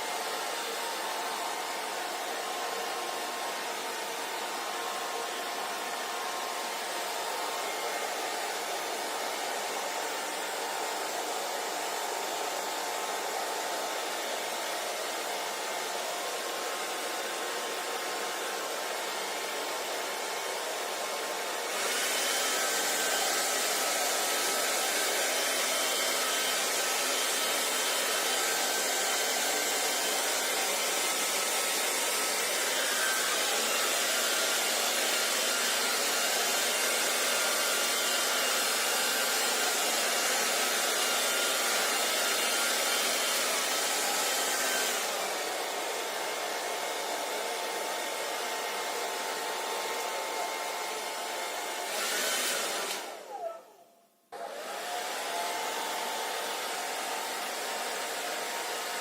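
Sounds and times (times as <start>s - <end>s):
hair dryer blowing: 0.0s - 53.7s, 54.3s - 59.0s.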